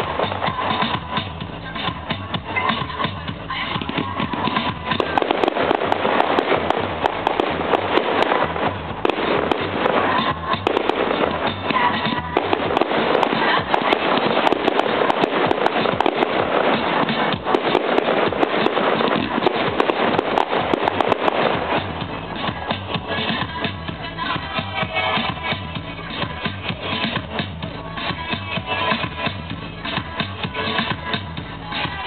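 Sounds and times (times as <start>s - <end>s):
fireworks crackling: 0.0s - 32.0s
music playing: 0.0s - 32.0s.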